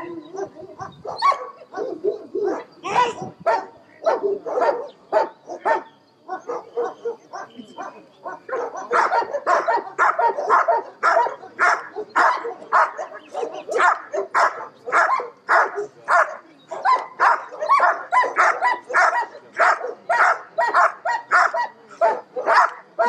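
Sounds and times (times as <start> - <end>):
dogs barking: 0.0 - 23.0.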